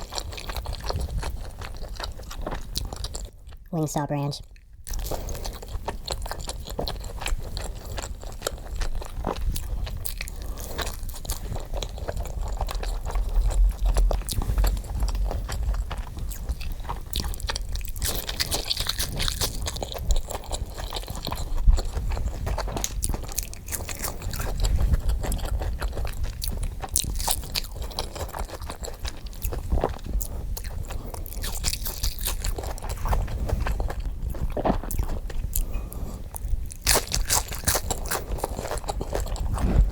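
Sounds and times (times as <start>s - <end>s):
crunchy chewing: 0.0s - 3.7s, 4.4s - 39.9s.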